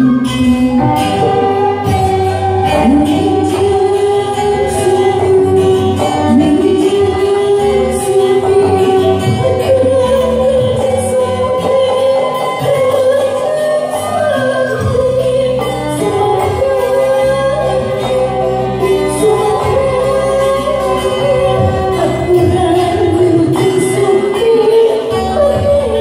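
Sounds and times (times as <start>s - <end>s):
music with singing: 0.0s - 26.0s.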